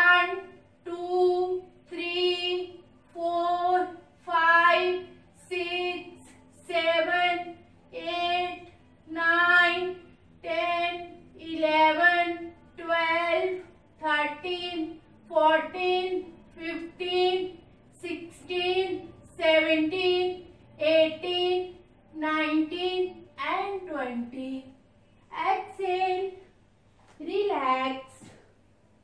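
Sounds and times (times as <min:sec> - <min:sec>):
woman counting in a sing-song chant: 0:00.0 - 0:26.5, 0:27.2 - 0:28.4.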